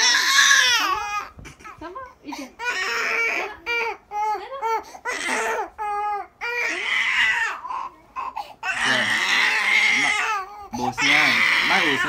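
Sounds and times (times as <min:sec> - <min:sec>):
baby crying: 0:00.0 - 0:12.0.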